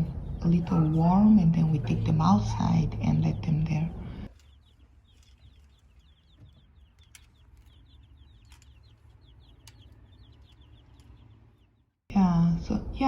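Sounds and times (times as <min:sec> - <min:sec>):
chicks peeping: 0:00.0 - 0:11.9.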